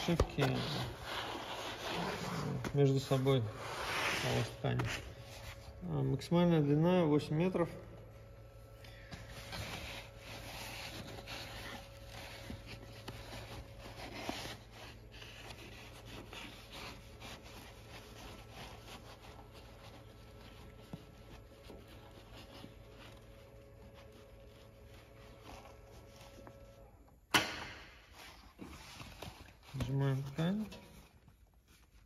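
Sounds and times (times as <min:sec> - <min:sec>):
fabric rustling and sliding: 0:00.0 - 0:06.1, 0:08.4 - 0:27.0, 0:27.9 - 0:32.0
faint steady hum: 0:00.0 - 0:32.0.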